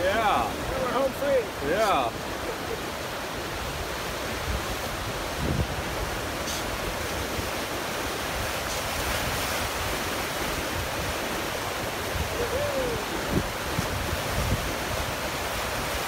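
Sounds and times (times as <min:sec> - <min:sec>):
river rapids rushing: 0:00.0 - 0:16.0.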